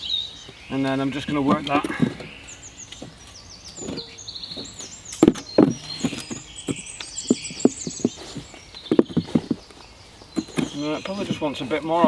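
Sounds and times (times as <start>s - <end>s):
birds chirping: 0.0s - 12.0s
uneven knocks and scrapes: 0.5s - 12.0s.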